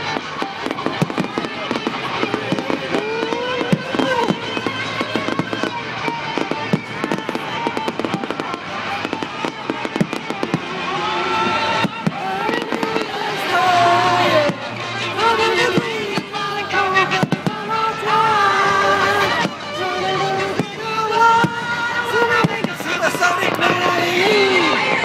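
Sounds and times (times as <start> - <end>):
firework bangs and crackles: 0.0 - 25.0
music from loudspeakers: 0.0 - 25.0.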